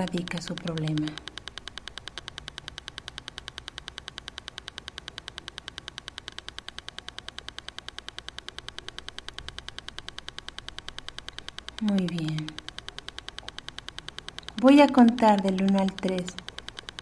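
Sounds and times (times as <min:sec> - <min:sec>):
faint low hum: 0:00.0 - 0:17.0
rapid even ticking: 0:00.0 - 0:17.0.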